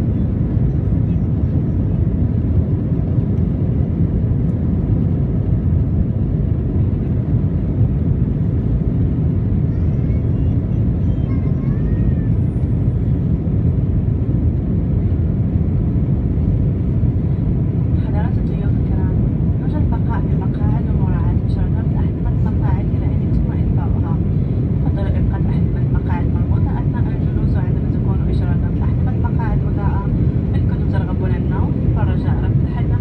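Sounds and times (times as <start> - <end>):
jet engine rumble in cabin: 0.0 - 33.0.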